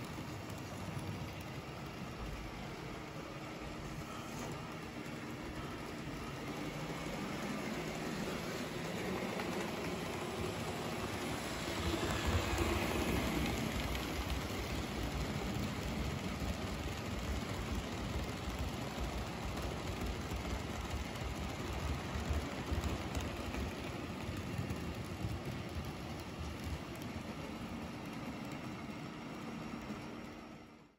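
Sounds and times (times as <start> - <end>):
model train wheels rattling: 0.0 - 30.8.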